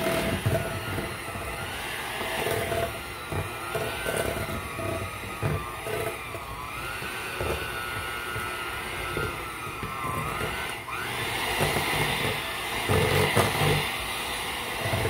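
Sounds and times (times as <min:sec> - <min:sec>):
electric hand mixer whine: 0:00.0 - 0:15.0.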